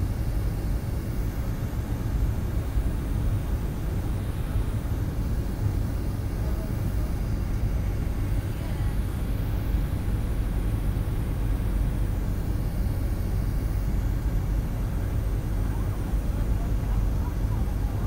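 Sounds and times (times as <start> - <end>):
jet engines rumbling in cabin: 0.0 - 18.0.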